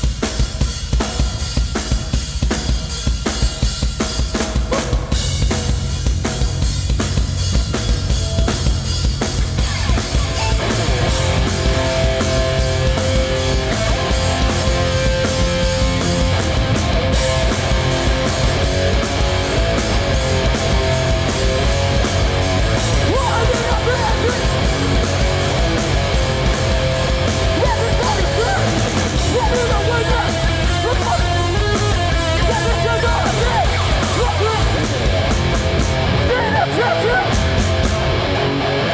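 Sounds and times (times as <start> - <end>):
distorted guitars: 0.0 - 38.9
pounding drum kit: 0.0 - 38.9
punk band playing live: 0.0 - 38.9.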